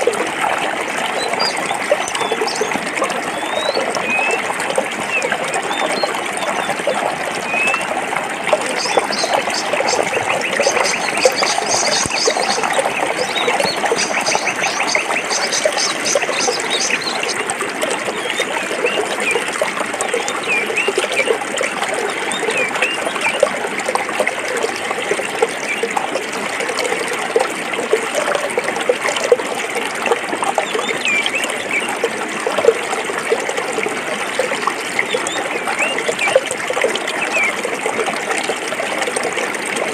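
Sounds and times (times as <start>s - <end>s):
stream gurgling over rocks: 0.0s - 39.9s.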